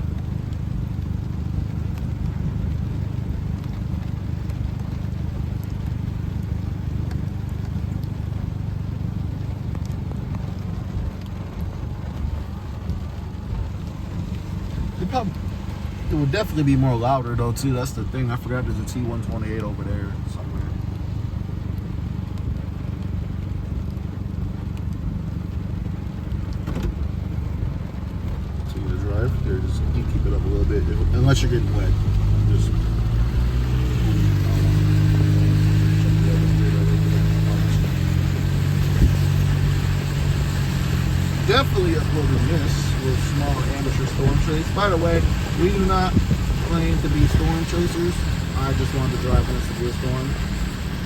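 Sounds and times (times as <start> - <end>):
car driving rumble from cabin: 0.0 - 51.0
rain ticking on car: 0.0 - 51.0.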